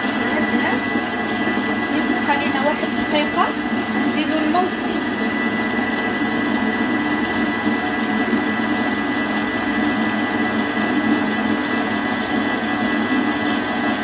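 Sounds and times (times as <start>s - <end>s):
food processor motor humming: 0.0s - 14.0s.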